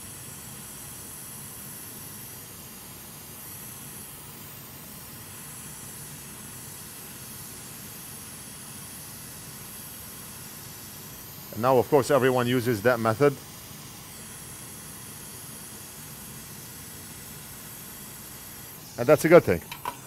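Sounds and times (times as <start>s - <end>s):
hot air blower hissing: 0.0s - 20.0s.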